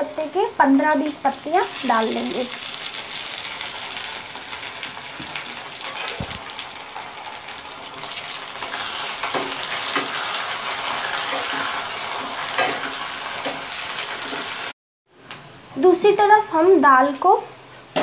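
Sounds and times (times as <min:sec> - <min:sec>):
onions sizzling in hot oil: 0:00.0 - 0:14.7.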